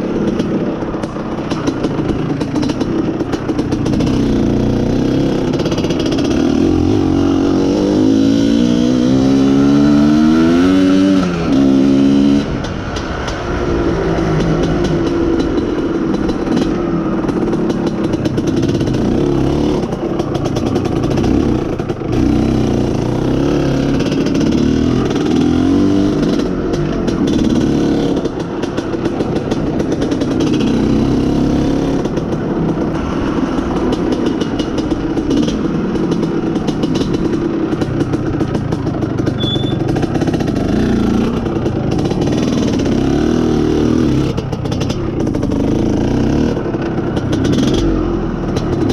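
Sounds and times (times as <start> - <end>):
two-stroke engine running: 0.0 - 48.9.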